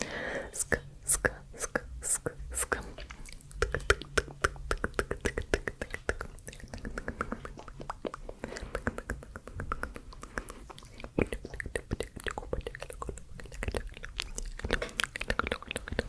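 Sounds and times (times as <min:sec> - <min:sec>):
wet mouth clicks and smacks: 0:02.6 - 0:16.0.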